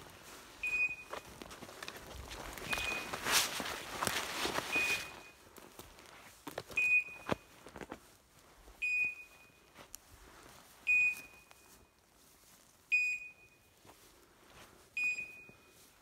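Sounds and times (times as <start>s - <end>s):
footsteps through brush: 0.0s - 16.0s.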